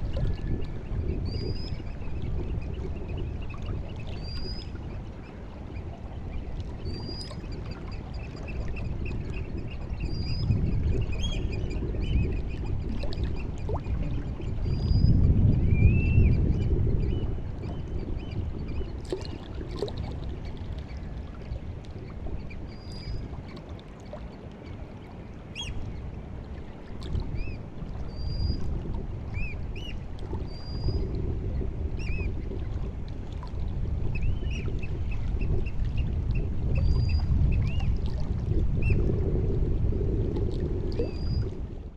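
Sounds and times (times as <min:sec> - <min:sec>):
water lapping at shore: 0:00.0 - 0:41.9.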